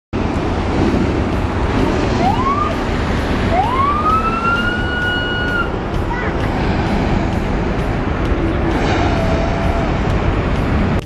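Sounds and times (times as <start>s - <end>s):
low rumble: 0.2s - 11.0s.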